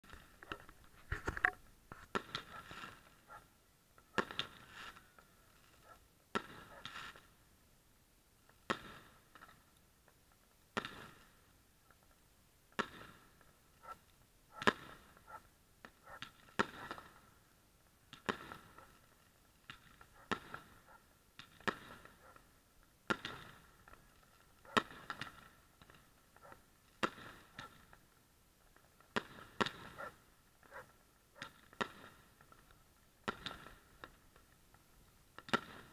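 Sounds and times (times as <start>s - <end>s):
fireworks bursting: 1.8s - 7.4s, 8.4s - 35.9s.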